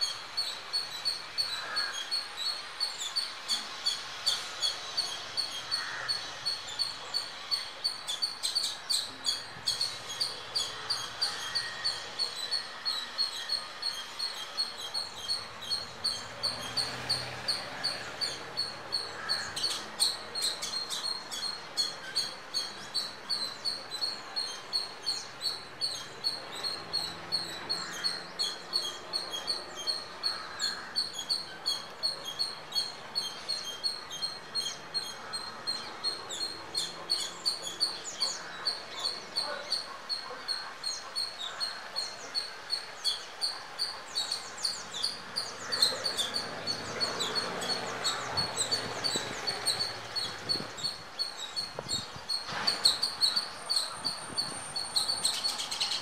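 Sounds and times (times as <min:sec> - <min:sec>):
squirrel chirping squeaks: 0:00.0 - 0:56.0.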